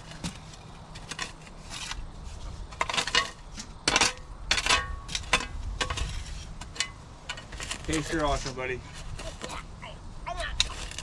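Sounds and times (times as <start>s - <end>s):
metallic clinks and scrapes: 0.0s - 9.6s.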